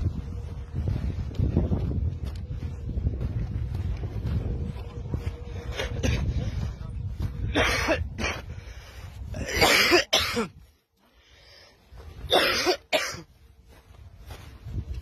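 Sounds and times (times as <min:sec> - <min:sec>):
low microphone rumble: 0:00.0 - 0:12.4.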